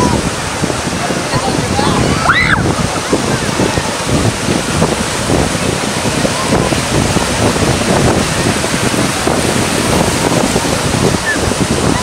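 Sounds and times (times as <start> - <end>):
ocean surf breaking: 0.0 - 12.0
wind on microphone: 0.0 - 12.0.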